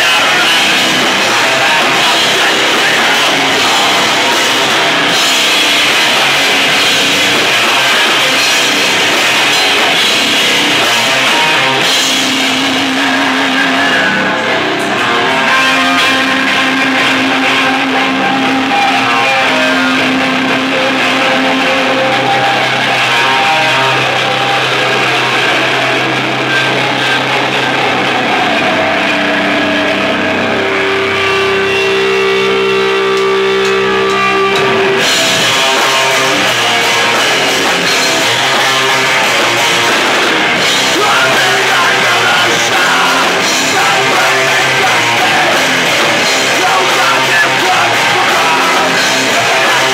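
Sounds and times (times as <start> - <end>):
drums and cymbals: 0.0 - 49.9
electric guitar sustained notes: 0.0 - 49.9
live rock band: 0.0 - 49.9.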